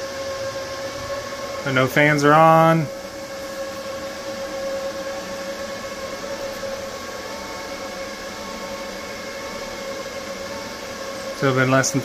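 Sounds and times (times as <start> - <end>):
fan-like hiss: 0.0 - 12.0
inverter electrical hum and whine: 0.0 - 12.0.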